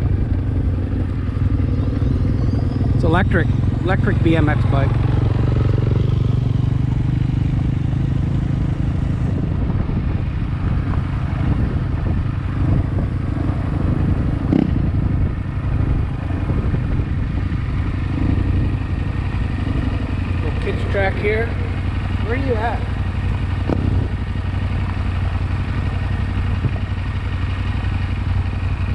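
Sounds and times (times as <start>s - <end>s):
motorcycle engine running: 0.0s - 28.9s
road noise: 0.0s - 28.9s.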